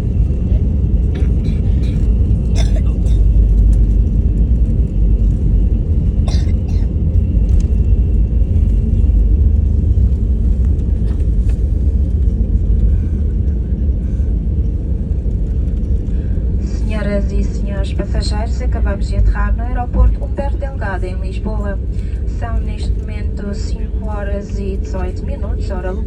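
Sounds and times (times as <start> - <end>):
low rumble inside aircraft cabin: 0.0 - 26.0.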